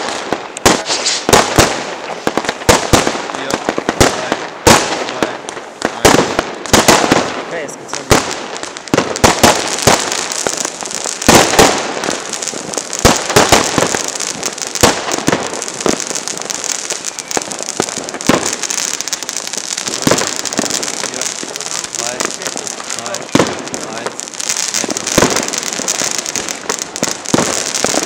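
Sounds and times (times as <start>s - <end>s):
steady hiss: 0.0s - 6.6s, 10.0s - 28.0s
fireworks banging: 0.0s - 28.0s.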